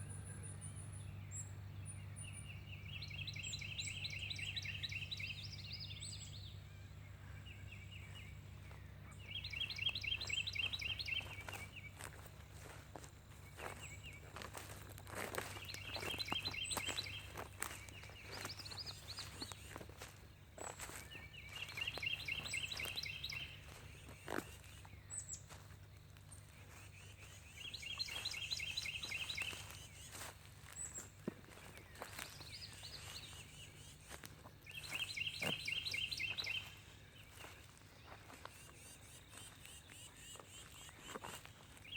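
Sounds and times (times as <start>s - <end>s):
thin high bird calls: 0.0s - 12.8s, 13.4s - 25.7s, 26.3s - 41.9s
small birds chirping: 0.0s - 41.9s.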